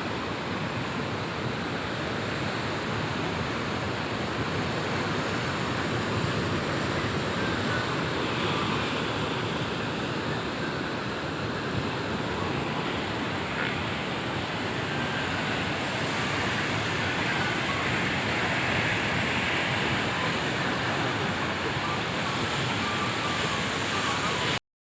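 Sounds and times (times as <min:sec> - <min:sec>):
sea waves breaking on shore: 0:00.0 - 0:24.6.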